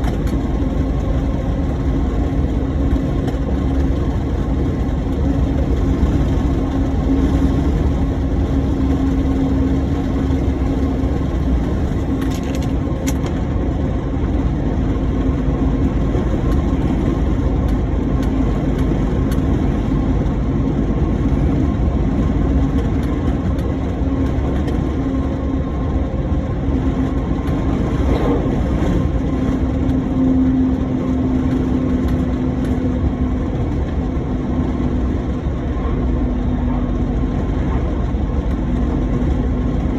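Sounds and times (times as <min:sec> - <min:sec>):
low road rumble: 0:00.0 - 0:39.9
truck engine drone: 0:00.0 - 0:39.9.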